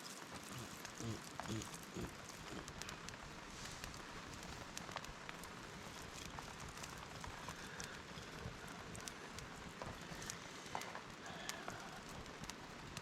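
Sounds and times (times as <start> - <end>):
raindrops ticking: 0.0 - 13.0
steady rain falling: 0.0 - 13.0.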